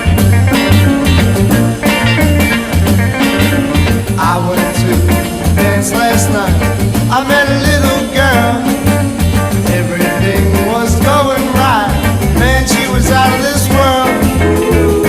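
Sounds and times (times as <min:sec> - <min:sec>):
rock and roll record: 0:00.0 - 0:15.0.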